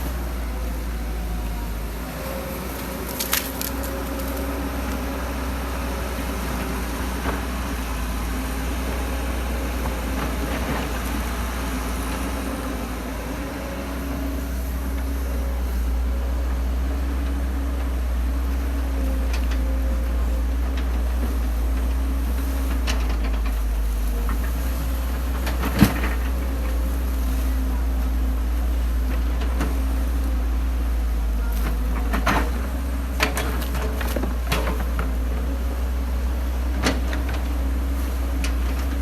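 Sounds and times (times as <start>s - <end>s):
excavator diesel engine droning: 0.0s - 39.0s.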